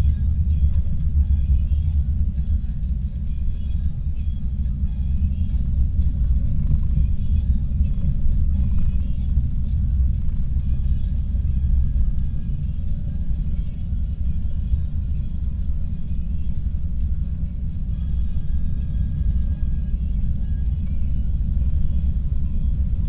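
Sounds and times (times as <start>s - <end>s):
car engine running: 0.0s - 23.0s
tyres rumbling on dirt road: 0.0s - 23.0s.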